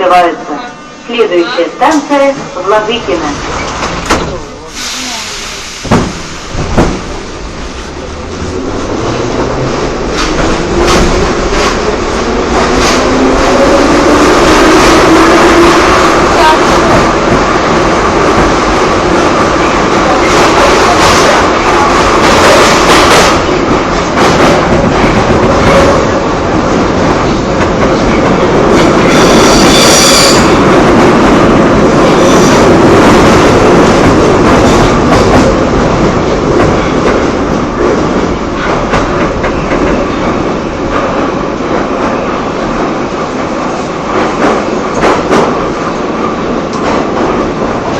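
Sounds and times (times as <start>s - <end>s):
train rumble and rail clatter: 0.0s - 47.9s.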